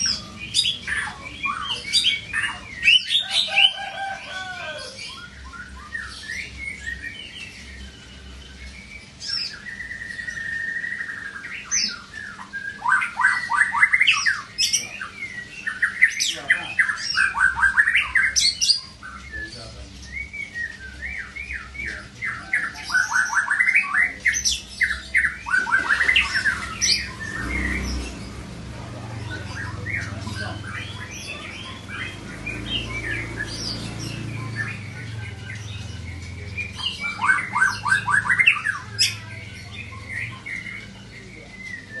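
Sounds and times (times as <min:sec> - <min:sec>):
songbirds chirping and singing: 0:00.0 - 0:42.0.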